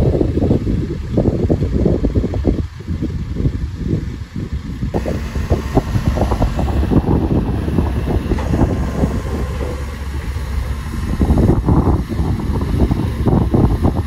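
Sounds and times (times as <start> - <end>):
diesel engine running: 0.0 - 14.0
wind buffeting microphone: 0.0 - 14.0.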